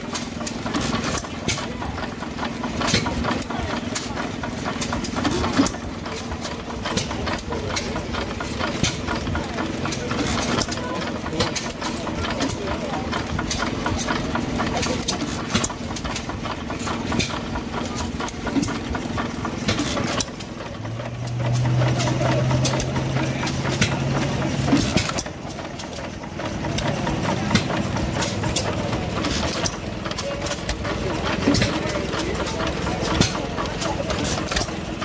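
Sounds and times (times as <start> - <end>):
gas engine running: 0.0 - 35.0.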